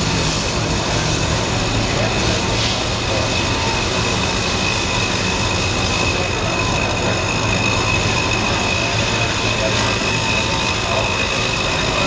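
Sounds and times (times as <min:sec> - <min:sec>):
high spindle whine: 0:00.0 - 0:12.0
machining noise: 0:00.0 - 0:12.0.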